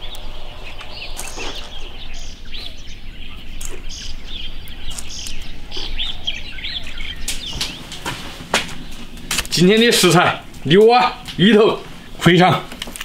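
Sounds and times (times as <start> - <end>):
birds chirping: 0.0 - 13.0
low background noise: 0.0 - 13.0.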